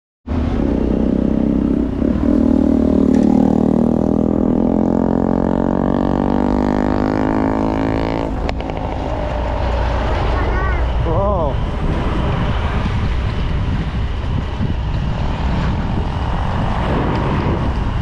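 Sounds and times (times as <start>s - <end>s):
vehicle engine droning: 0.3s - 18.0s.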